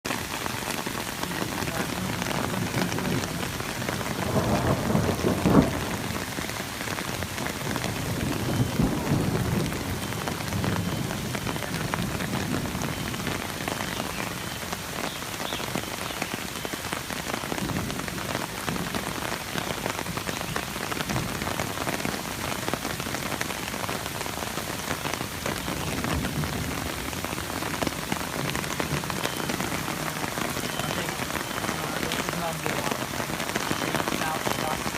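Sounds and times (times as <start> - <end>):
hail and heavy rain pelting: 0.0 - 34.9
thunder rumbling: 0.1 - 14.9, 17.4 - 34.9.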